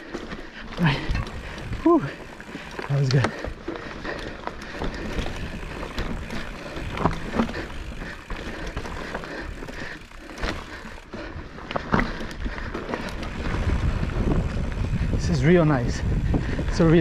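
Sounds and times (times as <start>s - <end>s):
bike tyre rumble: 0.0s - 17.0s
wheels knocking on rocks: 0.0s - 17.0s.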